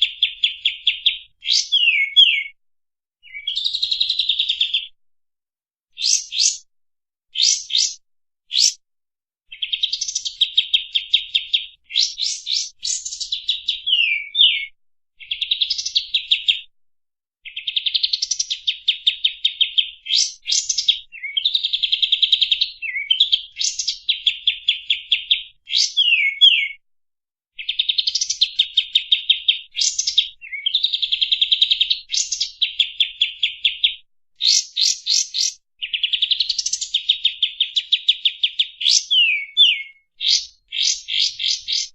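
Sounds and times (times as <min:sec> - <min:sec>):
bird singing rapid repeated notes: 0:00.0 - 0:02.6, 0:03.2 - 0:05.0, 0:06.0 - 0:06.7, 0:07.4 - 0:08.8, 0:09.5 - 0:16.7, 0:17.4 - 0:26.8, 0:27.6 - 0:41.9.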